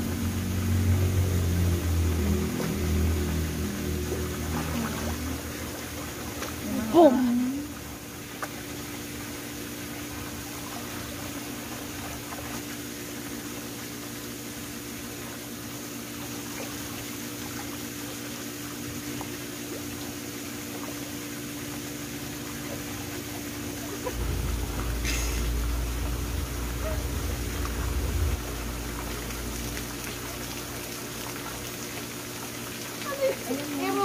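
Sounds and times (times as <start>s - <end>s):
low even hum: 0.0s - 33.7s
pool water running: 0.0s - 34.0s.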